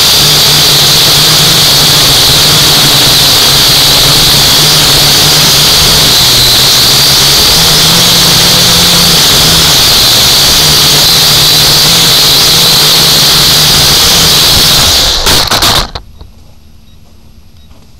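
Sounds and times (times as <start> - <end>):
drone motors buzzing: 0.0 - 16.3.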